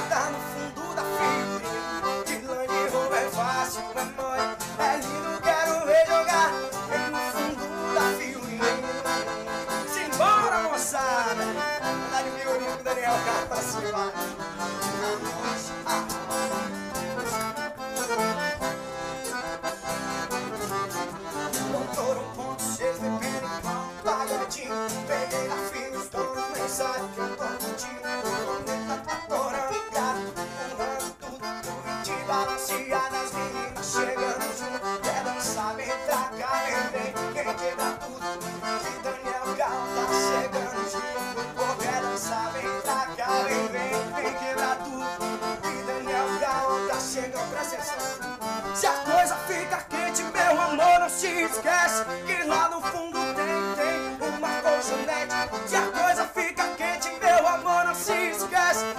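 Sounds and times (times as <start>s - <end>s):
acoustic guitar accompaniment: 0.0s - 58.9s
button accordion melody: 0.0s - 58.9s.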